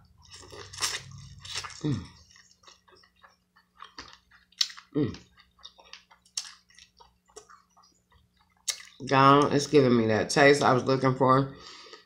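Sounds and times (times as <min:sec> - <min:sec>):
person chewing with wet smacks: 0:00.0 - 0:09.8.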